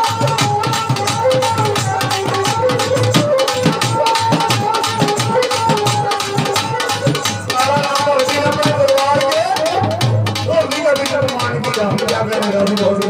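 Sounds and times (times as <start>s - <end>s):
hand drum strokes: 0.0s - 13.0s.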